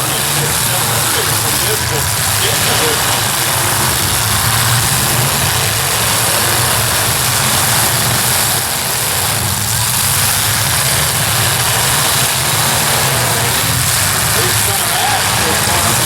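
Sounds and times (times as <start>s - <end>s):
car engines droning: 0.0s - 16.0s.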